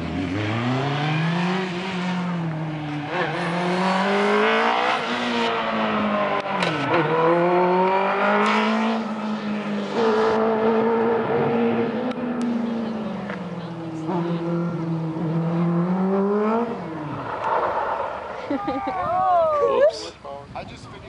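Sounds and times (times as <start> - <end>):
race car engine revving: 0.0 - 18.4.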